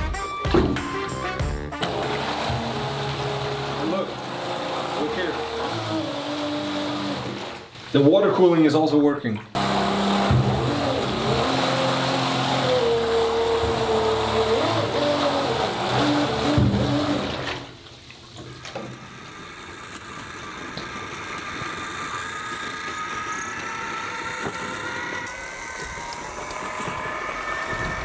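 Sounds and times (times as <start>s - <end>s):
electric motor whining: 1.8s - 7.4s, 9.6s - 17.5s, 19.0s - 28.0s
water churning: 1.8s - 28.0s.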